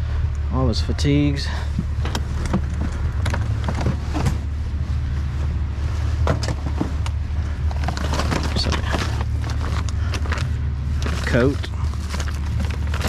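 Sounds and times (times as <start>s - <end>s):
steady low rumble: 0.0s - 13.0s
clothing and gear rustling: 1.8s - 13.0s.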